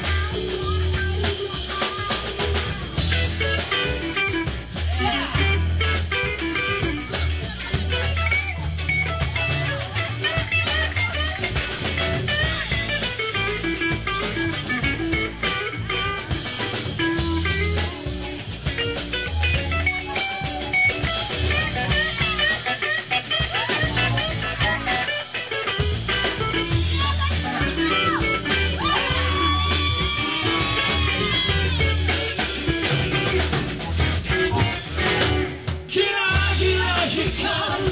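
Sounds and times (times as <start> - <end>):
bass guitar: 0.0 - 37.9
drum kit: 0.0 - 37.9
electric guitar lines: 2.3 - 35.8.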